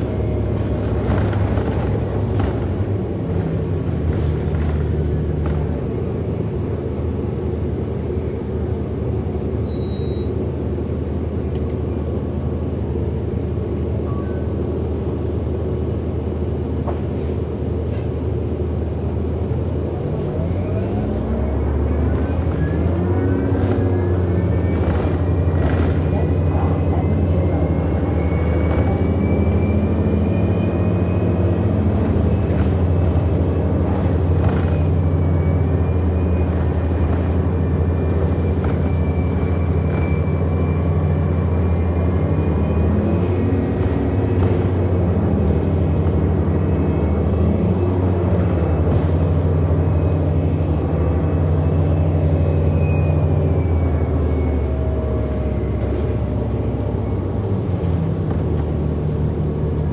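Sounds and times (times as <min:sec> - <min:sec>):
bus cabin drone: 0:00.0 - 0:59.9.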